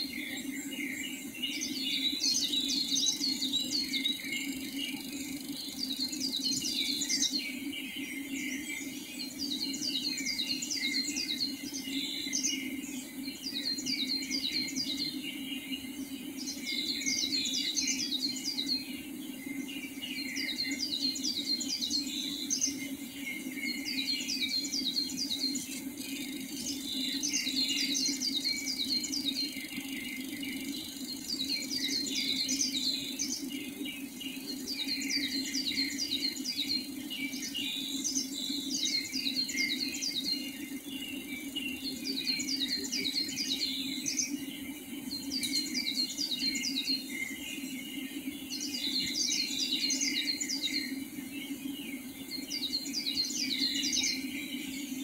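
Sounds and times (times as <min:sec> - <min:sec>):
bird song with high slurred notes: 0:00.0 - 0:55.0
dense chirring background: 0:00.0 - 0:55.0.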